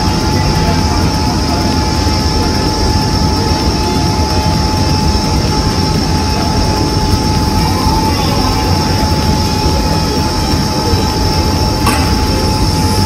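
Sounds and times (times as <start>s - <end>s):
constant hum: 0.0s - 13.0s
loud rumbling drone: 0.0s - 13.0s.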